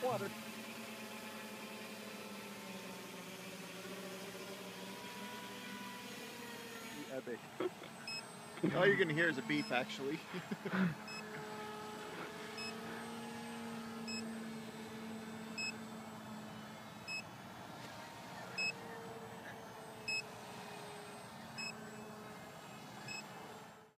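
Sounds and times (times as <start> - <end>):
electric motor hum: 0.0 - 24.0.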